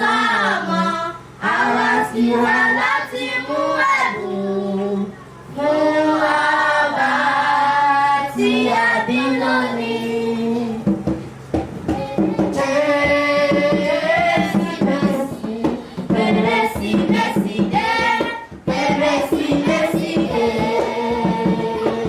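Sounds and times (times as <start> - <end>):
choir singing over a beat: 0.0 - 11.2, 11.8 - 22.0.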